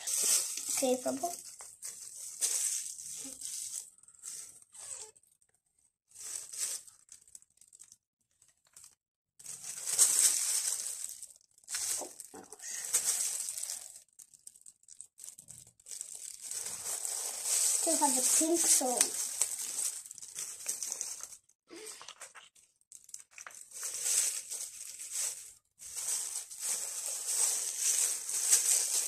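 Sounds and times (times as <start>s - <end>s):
plastic crinkling: 0.0s - 5.4s, 6.1s - 29.0s.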